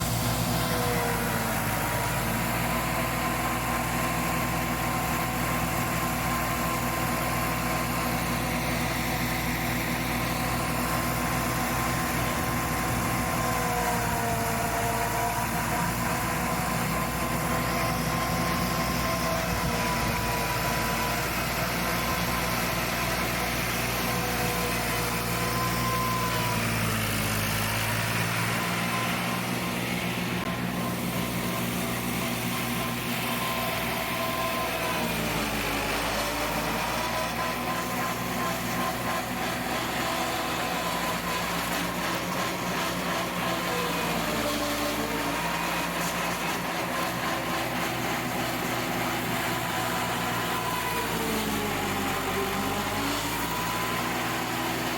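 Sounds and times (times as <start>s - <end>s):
chaff cutter whine: 0.0s - 54.9s
tractor diesel engine running: 0.0s - 54.9s.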